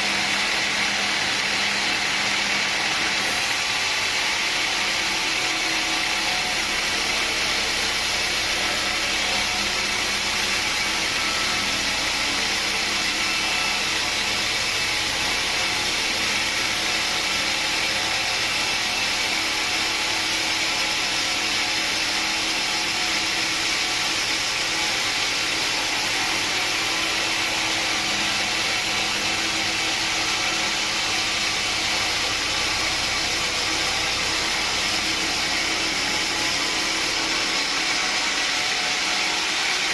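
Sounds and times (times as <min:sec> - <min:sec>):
high-pitched machinery hiss: 0:00.0 - 0:39.9.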